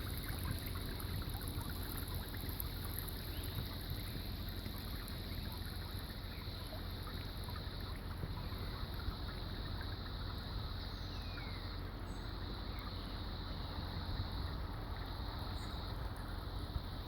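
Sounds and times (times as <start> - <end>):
running water flowing: 0.0 - 17.0.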